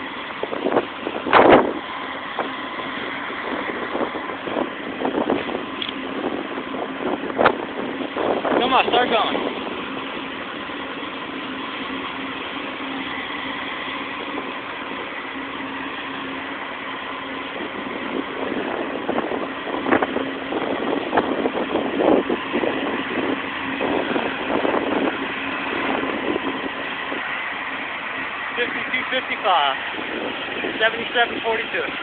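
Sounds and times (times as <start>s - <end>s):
diesel locomotives droning: 0.0s - 32.0s
locomotive whine: 0.0s - 32.0s.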